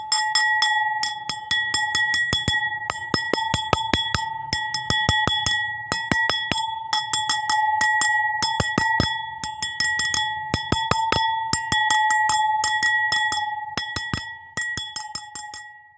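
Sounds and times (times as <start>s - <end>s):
taps on a bowl: 0.0s - 15.8s
bell-like ringing note: 0.0s - 15.9s.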